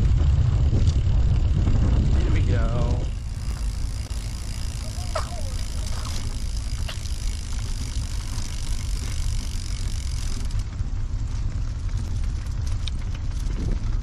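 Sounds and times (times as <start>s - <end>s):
trike rolling on pavement: 0.0s - 14.0s
wind buffeting microphone: 0.0s - 14.0s.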